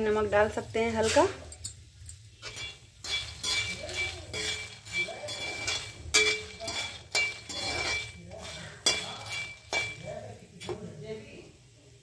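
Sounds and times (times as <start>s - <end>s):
metal spatula scraping a metal pan: 0.2s - 1.5s, 2.2s - 10.9s.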